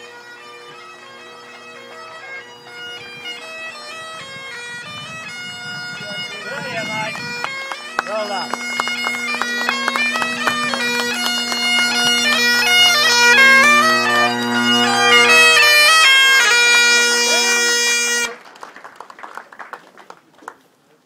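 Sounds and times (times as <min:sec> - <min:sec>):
bagpipes playing a tune: 0:00.0 - 0:18.4.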